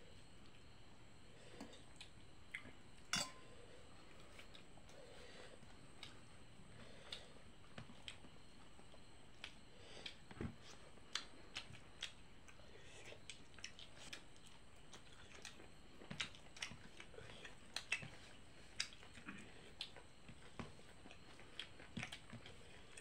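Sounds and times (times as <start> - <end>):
person chewing food: 3.8 - 23.0.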